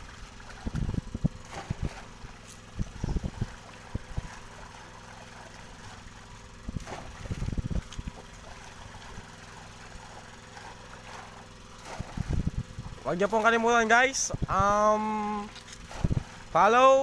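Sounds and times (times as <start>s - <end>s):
net splashing in water: 0.0s - 13.0s, 15.3s - 17.0s
small engine idling: 0.0s - 17.0s.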